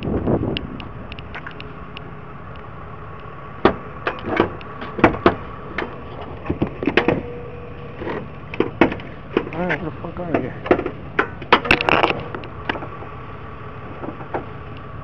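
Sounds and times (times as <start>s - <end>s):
sharp clicks and knocks: 0.0s - 7.3s, 8.0s - 13.1s, 13.9s - 14.9s
steady low hum: 0.0s - 15.0s.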